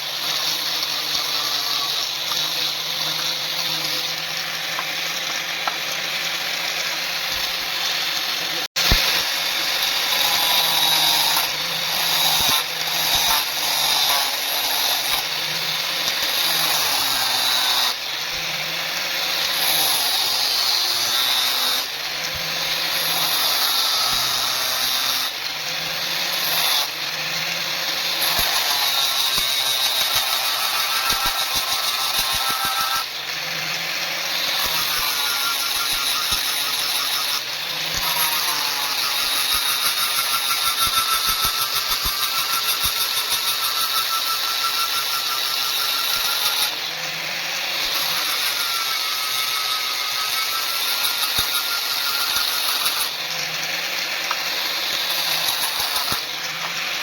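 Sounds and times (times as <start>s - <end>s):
grinder motor whine and grinding: 0.0s - 57.0s.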